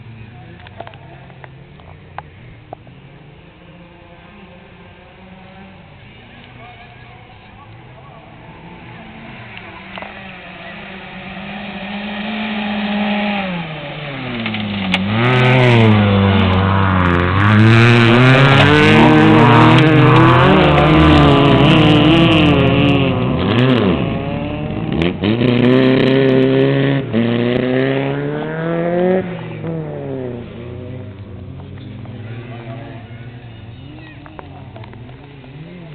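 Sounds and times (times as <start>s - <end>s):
rally car engine revving: 0.0s - 35.9s
tyre noise on loose dirt: 5.4s - 35.9s.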